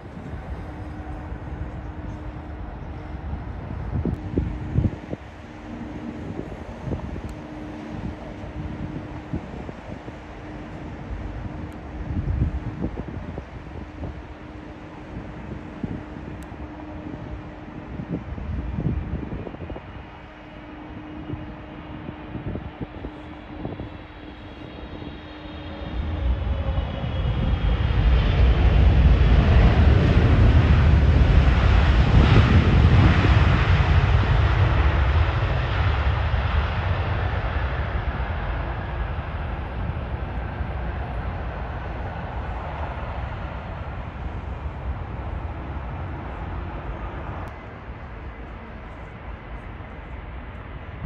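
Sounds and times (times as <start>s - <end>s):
jet engines rumbling: 0.0s - 51.0s.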